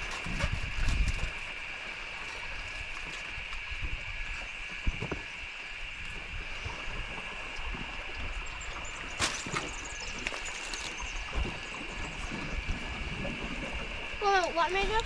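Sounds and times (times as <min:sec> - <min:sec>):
steady high-pitched hum: 0:00.0 - 0:15.0
water: 0:00.0 - 0:15.0
wind noise: 0:00.0 - 0:15.0.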